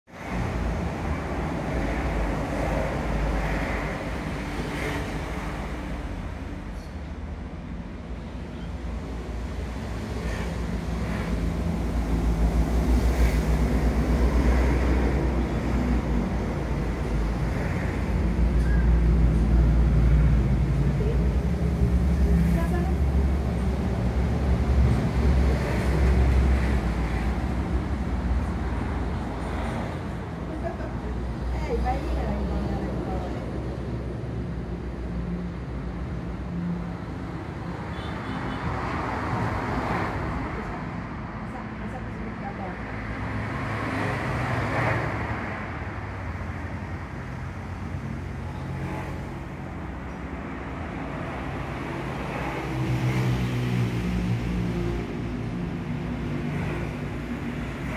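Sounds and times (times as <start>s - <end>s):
road traffic rumble: 0.0s - 57.9s.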